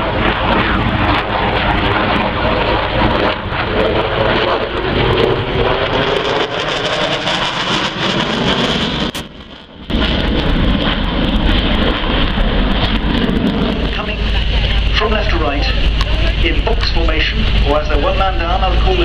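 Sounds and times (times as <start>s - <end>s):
propeller aircraft engines droning: 0.0s - 19.0s
wind buffeting on microphone: 0.0s - 19.0s.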